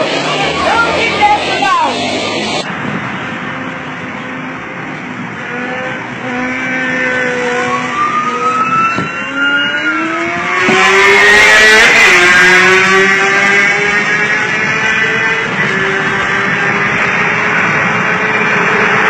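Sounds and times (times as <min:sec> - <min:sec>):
motorcycle engine revving: 0:00.0 - 0:19.0
wind and road noise: 0:00.0 - 0:19.0.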